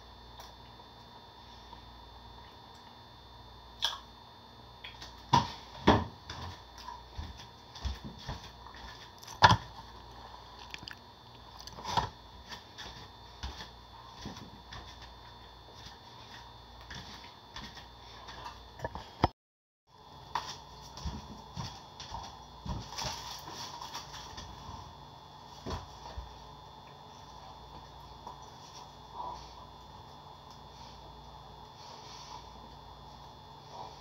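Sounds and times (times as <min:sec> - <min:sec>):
faint steady hum: 0:00.0 - 0:19.3, 0:19.9 - 0:34.0.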